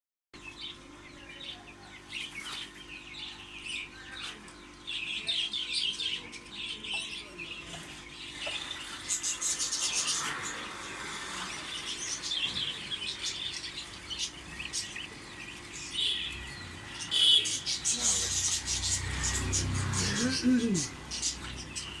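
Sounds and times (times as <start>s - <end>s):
small birds chirping: 0.4s - 22.0s.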